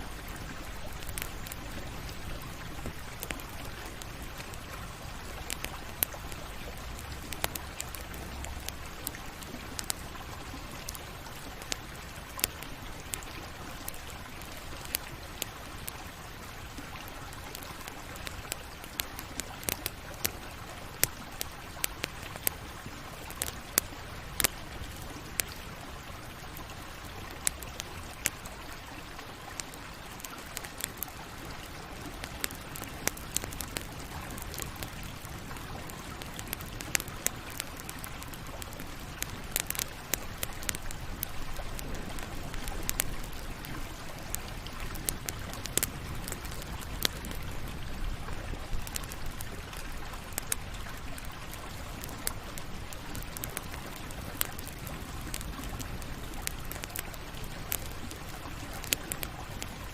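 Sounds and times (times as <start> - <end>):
campfire crackling and popping: 0.0 - 59.9
low hiss: 0.0 - 59.9.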